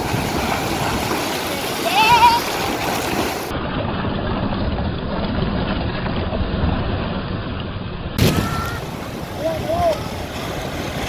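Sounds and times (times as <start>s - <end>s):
surf rushing: 0.0s - 7.6s, 8.2s - 11.0s
wind rumbling on microphone: 0.0s - 11.0s.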